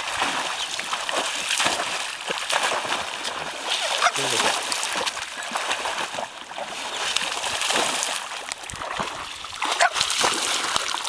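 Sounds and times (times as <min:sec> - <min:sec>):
child splashing water: 0:00.0 - 0:11.0
dog wading through water: 0:00.0 - 0:11.0.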